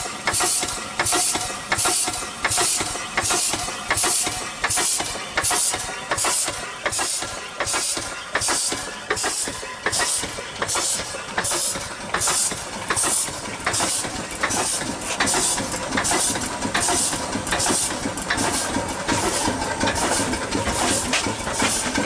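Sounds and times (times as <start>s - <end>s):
steady steam hiss: 0.0s - 22.0s
steam engine exhaust chuffs: 0.0s - 22.0s.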